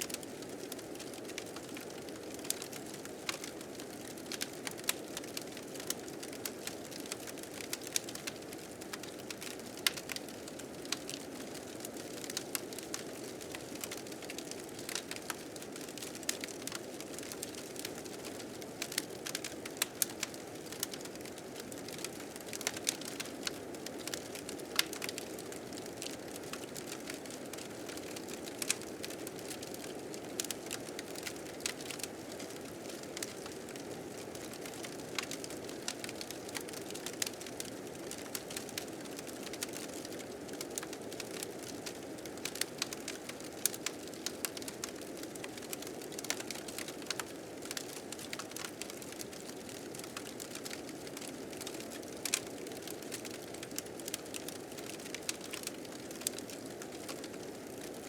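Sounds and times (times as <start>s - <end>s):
fire crackling: 0.1s - 58.0s.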